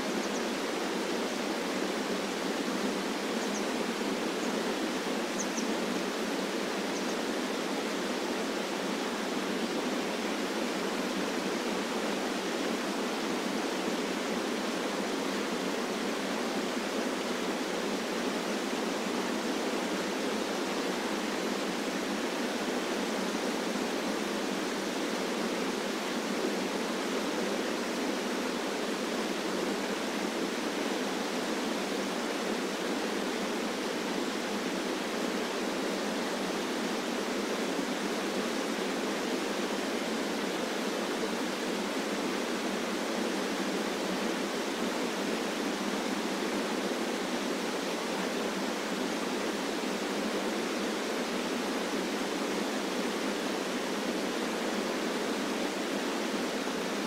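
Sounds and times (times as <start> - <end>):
water rushing over rock ledges: 0.0 - 57.0.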